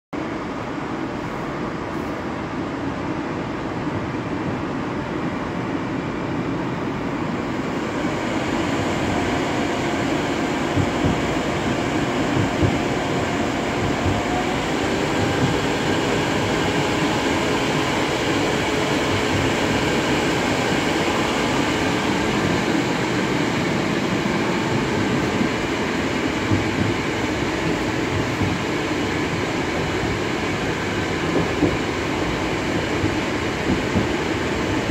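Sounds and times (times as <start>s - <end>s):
metro train rumble: 0.2s - 34.9s.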